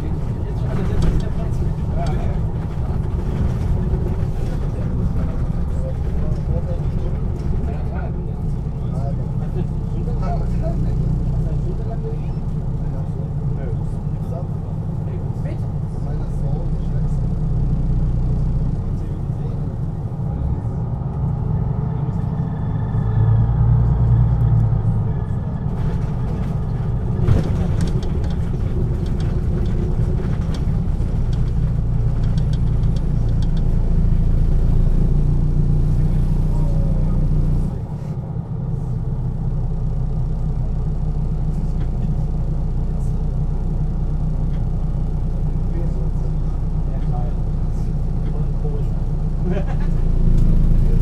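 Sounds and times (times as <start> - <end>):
bus diesel engine droning: 0.0 - 51.0.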